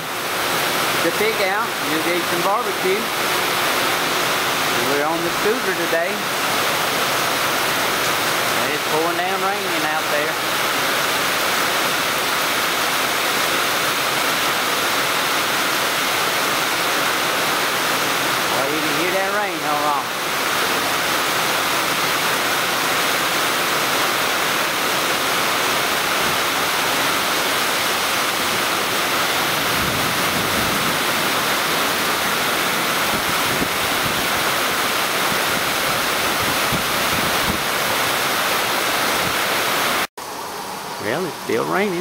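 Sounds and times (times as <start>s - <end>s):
heavy rain pouring: 0.0s - 40.1s.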